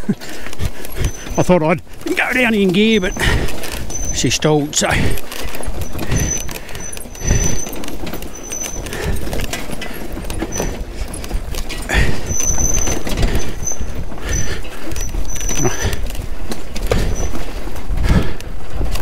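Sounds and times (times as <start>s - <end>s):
motorcycle tyres rumbling over bumps: 0.0s - 19.0s.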